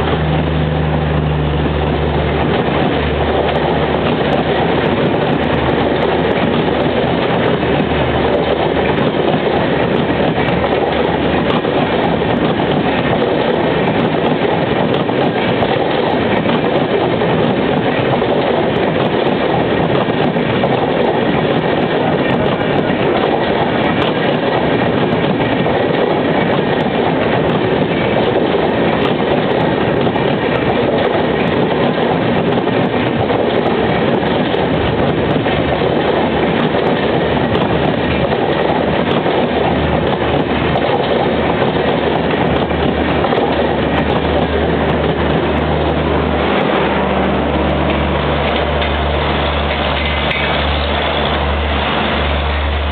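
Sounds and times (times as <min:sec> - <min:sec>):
low diesel generator hum: 0:00.0 - 0:19.1, 0:26.9 - 0:52.9
clatter over rail joints: 0:00.0 - 0:52.9
train wheels on rails: 0:00.0 - 0:52.9.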